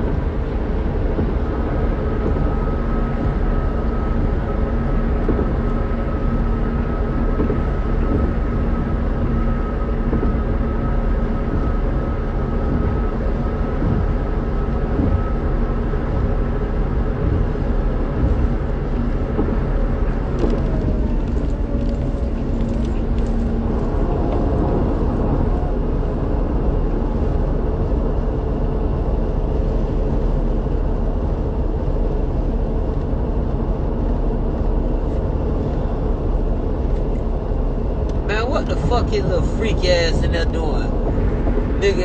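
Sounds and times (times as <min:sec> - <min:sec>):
car road and engine rumble: 0:00.0 - 0:42.0
faint steady whine: 0:00.0 - 0:42.0.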